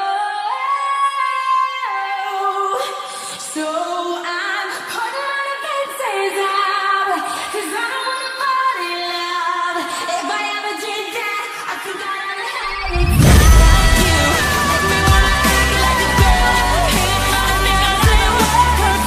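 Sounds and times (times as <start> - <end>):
woman singing pop song: 0.0 - 19.0.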